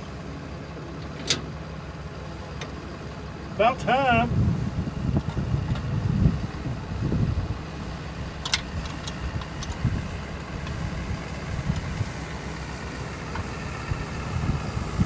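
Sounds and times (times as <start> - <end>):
pickup truck engine rumble: 0.0 - 15.0.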